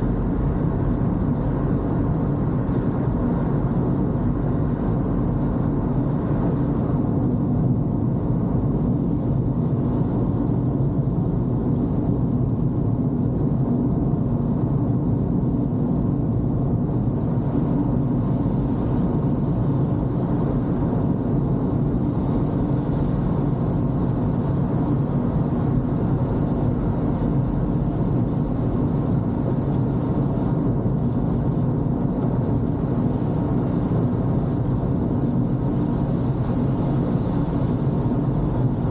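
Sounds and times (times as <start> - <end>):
car engine and tyre hum: 0.0 - 38.9.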